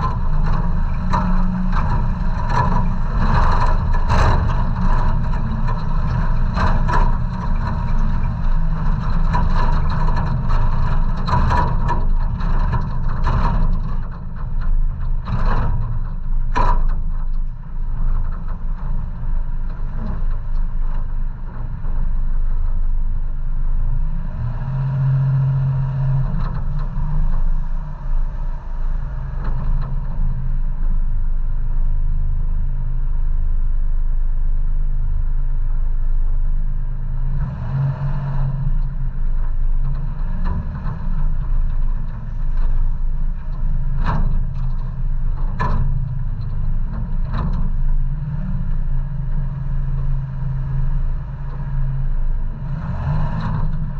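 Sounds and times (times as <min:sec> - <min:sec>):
truck engine running low: 0:00.0 - 0:53.9.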